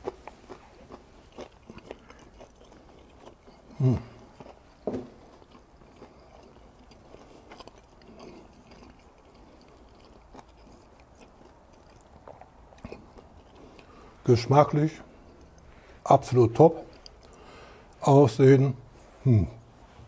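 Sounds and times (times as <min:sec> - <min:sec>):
faint chewing: 0:00.0 - 0:18.2.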